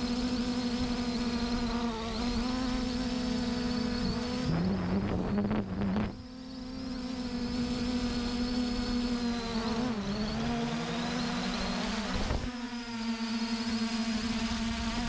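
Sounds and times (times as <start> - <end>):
pitched buzzing hum: 0.0 - 15.0.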